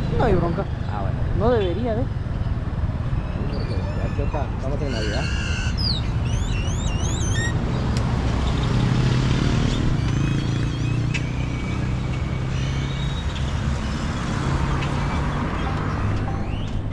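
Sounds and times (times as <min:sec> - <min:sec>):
wind and road noise: 0:00.0 - 0:16.9.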